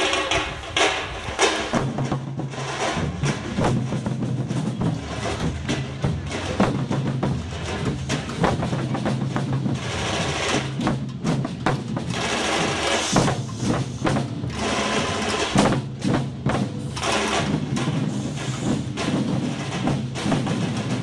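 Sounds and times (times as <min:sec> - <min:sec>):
deep bass drums: 0:00.0 - 0:12.3, 0:13.1 - 0:21.0
sharp snare drum strokes: 0:00.0 - 0:21.0.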